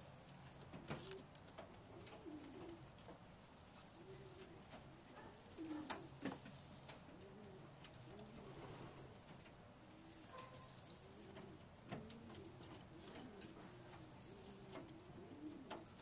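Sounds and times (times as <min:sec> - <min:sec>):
pigeons cooing: 0:00.6 - 0:03.0, 0:03.7 - 0:16.0.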